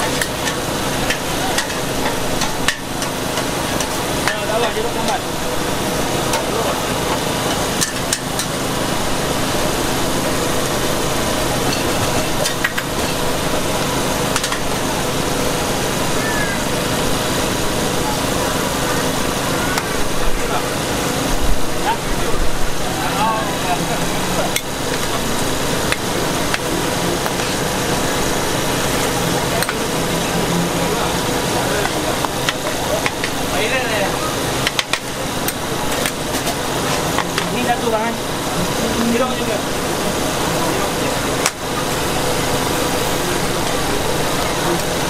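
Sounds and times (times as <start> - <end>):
gas burner roaring: 0.0 - 45.0
noodles frying in a wok: 0.0 - 45.0
steady hum: 0.0 - 45.0.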